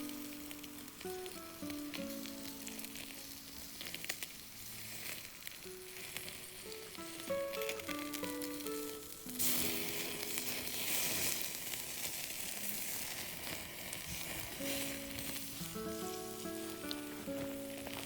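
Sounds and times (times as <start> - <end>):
soft melody: 0.0 - 13.2, 14.1 - 18.0
pork sizzling over campfire: 0.0 - 18.0.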